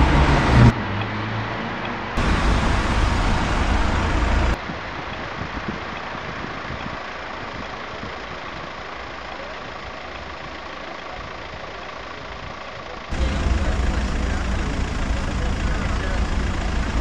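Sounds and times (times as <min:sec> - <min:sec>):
street background hiss: 0:02.1 - 0:17.0
car engine idling: 0:02.2 - 0:17.0.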